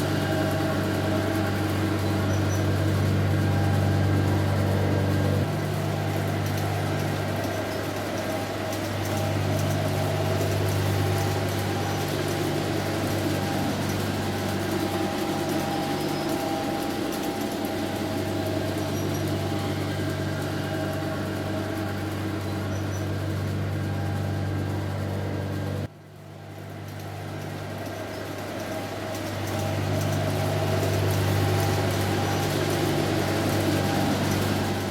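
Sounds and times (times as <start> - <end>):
model locomotive motor hum: 0.0 - 34.9
train cars rolling on track: 0.0 - 34.9.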